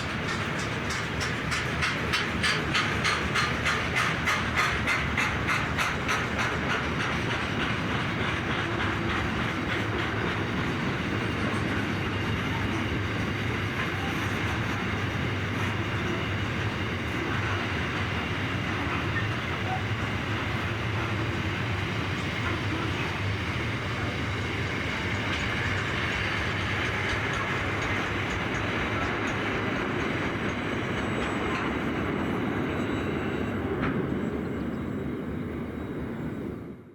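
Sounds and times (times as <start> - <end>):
wheels clacking over rail joints: 0.0 - 34.4
train wheels rumbling on rail: 0.0 - 36.9.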